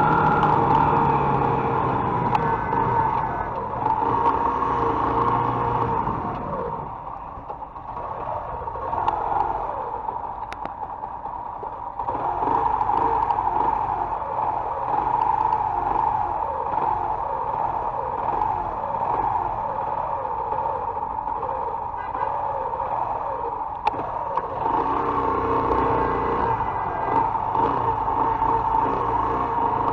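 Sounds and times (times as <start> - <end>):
car traffic: 0.0 - 29.9
motorcycle engine idling: 0.0 - 29.9.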